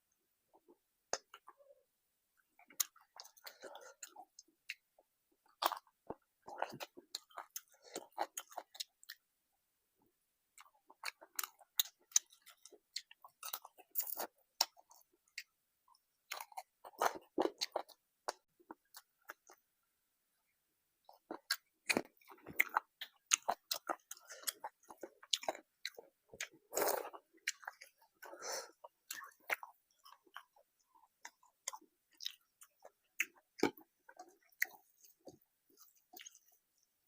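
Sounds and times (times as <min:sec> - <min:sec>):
close chewing and smacking: 0:02.5 - 0:09.2, 0:10.6 - 0:19.7, 0:21.0 - 0:37.0.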